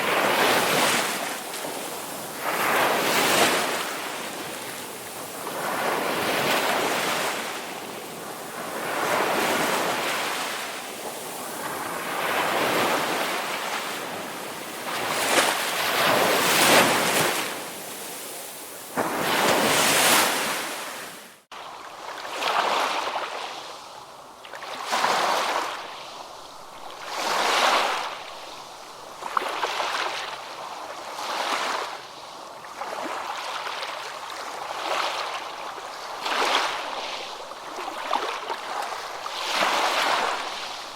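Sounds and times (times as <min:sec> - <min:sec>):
waves breaking: 0:00.0 - 0:23.6, 0:24.5 - 0:30.3, 0:36.2 - 0:40.9.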